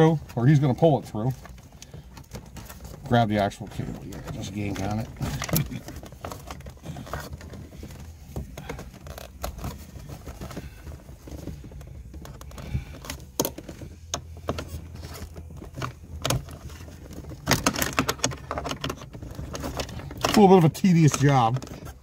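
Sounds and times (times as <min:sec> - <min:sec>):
low steady hum: 0:00.0 - 0:22.0
shifter cable clicking and rattling: 0:00.0 - 0:22.0.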